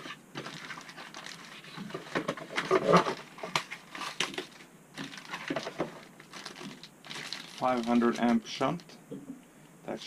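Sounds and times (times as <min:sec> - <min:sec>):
paper and cardboard rustling: 0:00.0 - 0:08.8.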